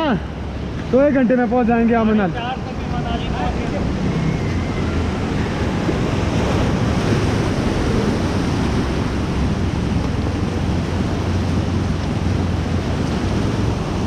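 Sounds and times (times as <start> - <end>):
fast river water rushing: 0.0 - 14.0
wind buffeting microphone: 0.0 - 14.0.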